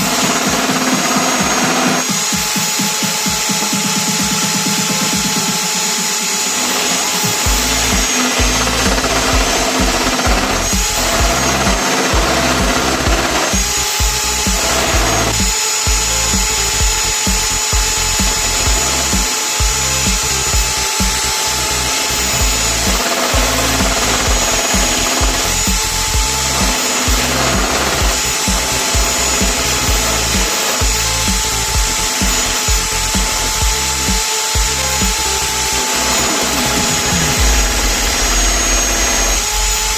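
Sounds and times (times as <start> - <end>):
background music: 0.0 - 39.9
drill motor whine: 0.0 - 39.9.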